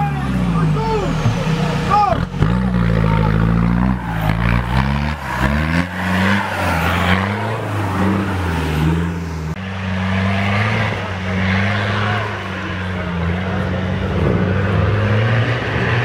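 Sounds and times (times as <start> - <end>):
engine revving hard: 0.0 - 16.0.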